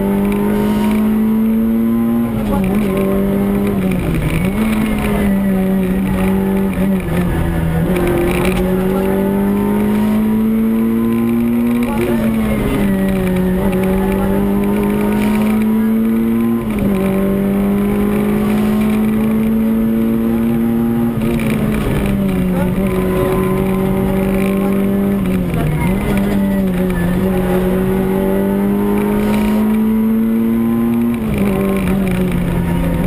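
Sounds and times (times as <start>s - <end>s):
car engine pulling hard: 0.0s - 33.0s.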